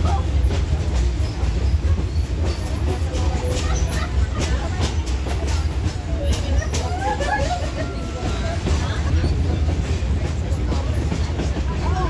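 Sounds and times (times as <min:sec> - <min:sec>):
train car rumbling on track: 0:00.0 - 0:12.0
wheels clicking and knocking: 0:00.0 - 0:12.0.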